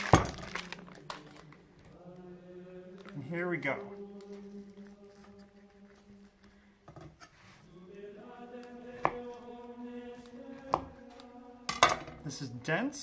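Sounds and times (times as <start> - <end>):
chant-like singing tone: 0.6 - 6.6, 7.6 - 12.6.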